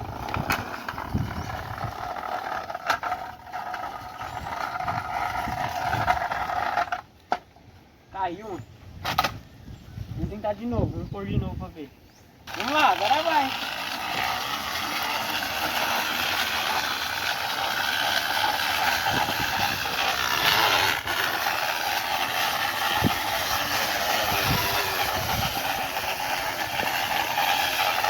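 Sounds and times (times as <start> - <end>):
can rattling against bicycle tyre: 0.0 - 7.1, 12.4 - 28.0.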